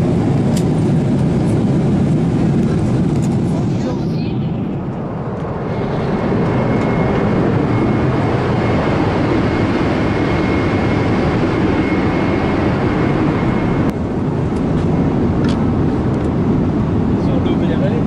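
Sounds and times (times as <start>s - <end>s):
airflow rushing in aircraft cabin: 0.0s - 18.0s
jet engines: 0.0s - 18.0s.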